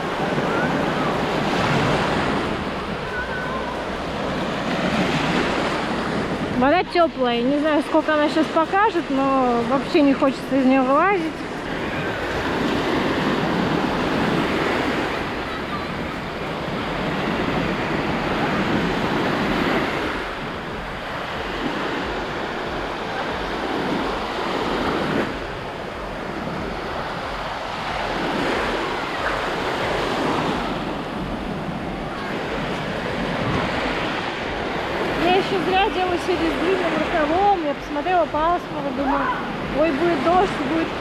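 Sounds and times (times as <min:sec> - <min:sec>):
small waves washing on shore: 0:00.0 - 0:41.0.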